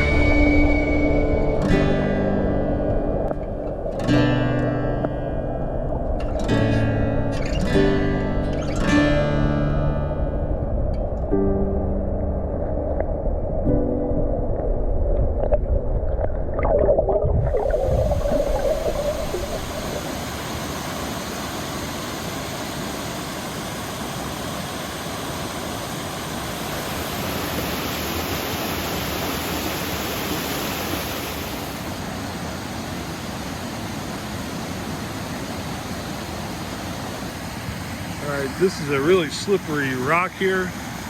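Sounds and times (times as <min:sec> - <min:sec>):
creek water rushing: 0:00.0 - 0:41.0.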